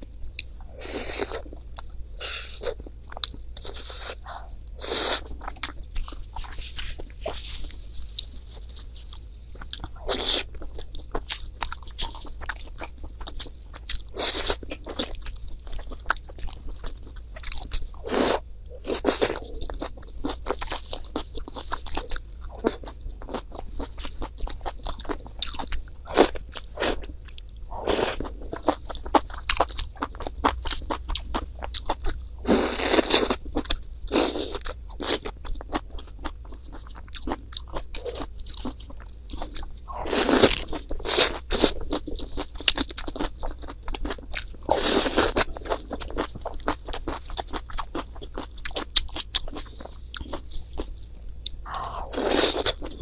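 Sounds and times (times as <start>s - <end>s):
person chewing noodles: 0.2s - 53.0s.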